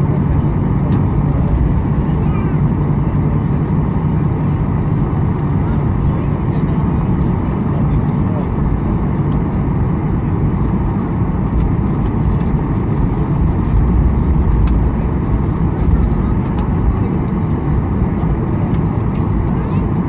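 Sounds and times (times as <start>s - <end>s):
aircraft engines rumbling: 0.0s - 20.0s.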